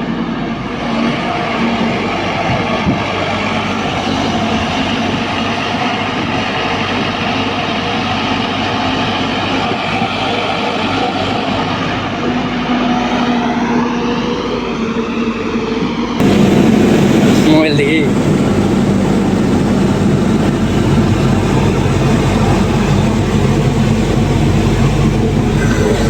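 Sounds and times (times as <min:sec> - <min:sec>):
heavy diesel engine revving: 0:00.0 - 0:26.0.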